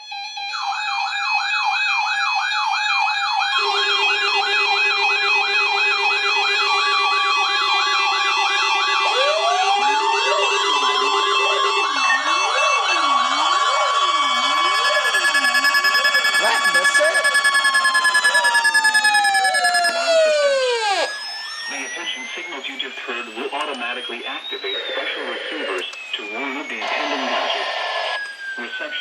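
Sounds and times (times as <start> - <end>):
electronic siren yelp: 0.0 - 29.0
low slow sweeping siren: 0.0 - 29.0
siren wail: 0.0 - 29.0
steady siren tones: 0.0 - 29.0.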